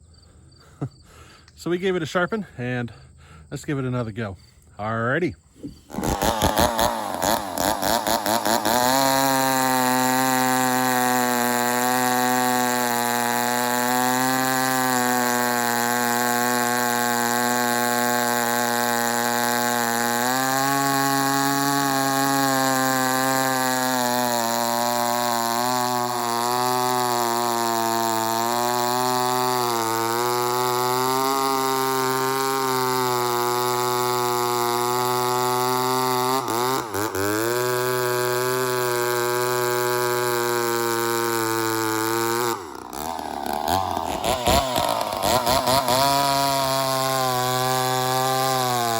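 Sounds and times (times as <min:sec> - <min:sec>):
chainsaw cutting wood: 0:05.6 - 0:48.9.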